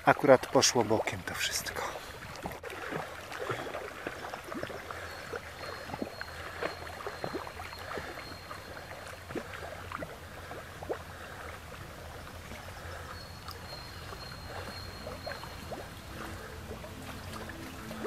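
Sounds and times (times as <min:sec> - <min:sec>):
water sloshing and splashing: 0:00.0 - 0:18.0.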